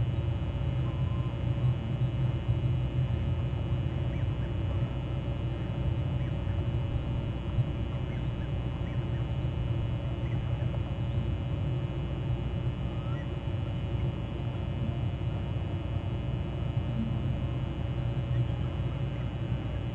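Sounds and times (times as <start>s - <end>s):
steady low rumble: 0.0s - 19.9s.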